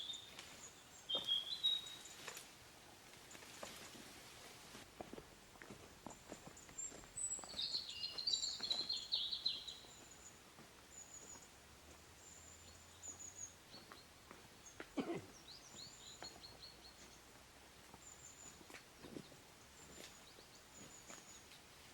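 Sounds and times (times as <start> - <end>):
songbirds chirping: 0.0 - 21.9.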